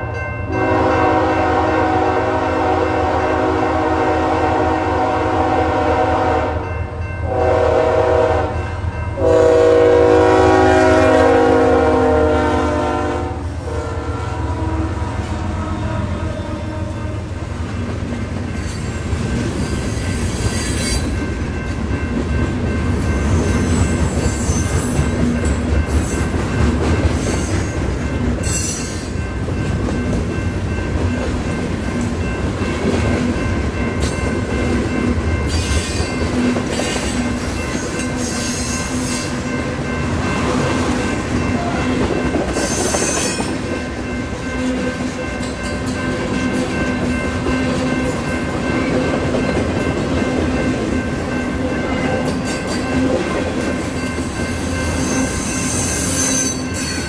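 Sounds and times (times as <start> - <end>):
freight wheels rumbling on rail: 0.0 - 57.0.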